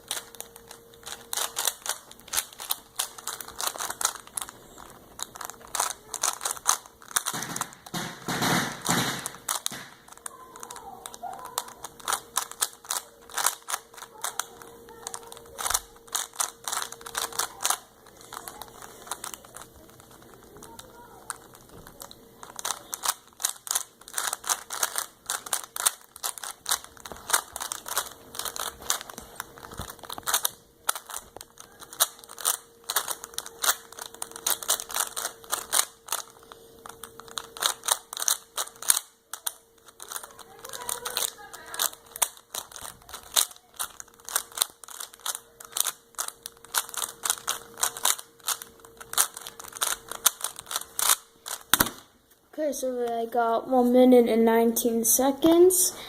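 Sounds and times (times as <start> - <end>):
plastic puzzle cube clicking: 0.1 - 52.0.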